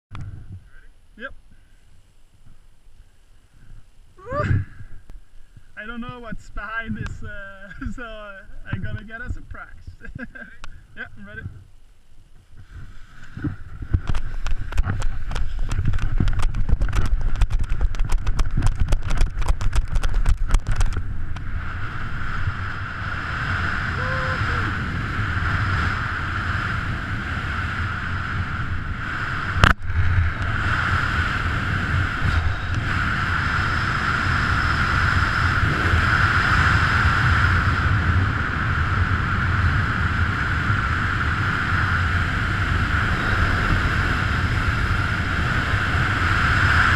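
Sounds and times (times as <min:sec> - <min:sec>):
wind rushing over camera: 0:00.1 - 0:46.9.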